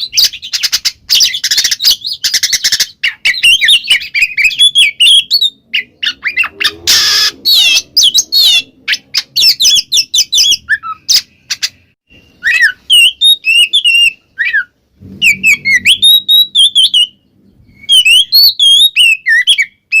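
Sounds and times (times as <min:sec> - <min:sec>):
bird singing whistles and chirps: 0:00.0 - 0:20.0
harsh bird squawk: 0:00.0 - 0:20.0.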